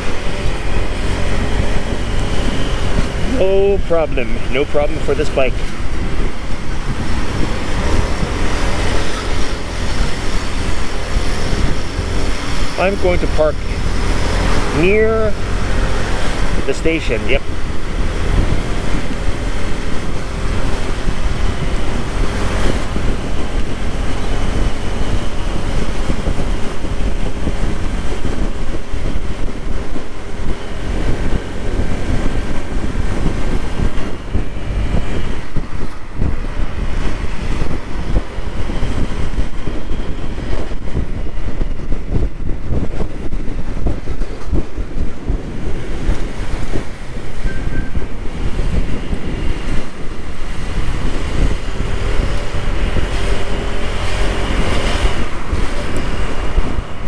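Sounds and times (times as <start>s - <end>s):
scooter engine and road noise: 0.0s - 57.0s
wind rush on microphone: 0.0s - 57.0s.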